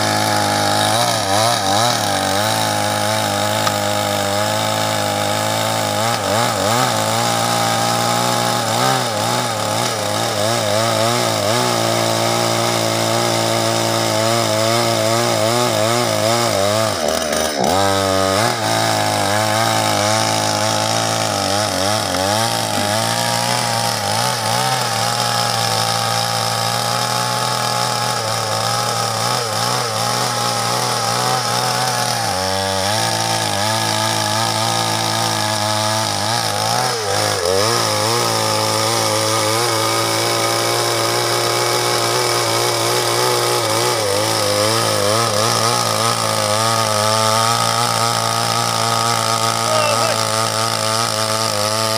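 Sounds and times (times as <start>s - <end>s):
chainsaw cutting log: 0.0s - 51.9s.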